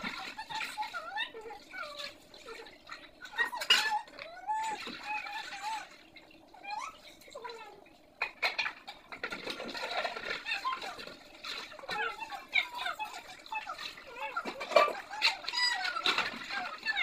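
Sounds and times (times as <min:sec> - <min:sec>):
water splashing in basin: 0:00.0 - 0:17.0.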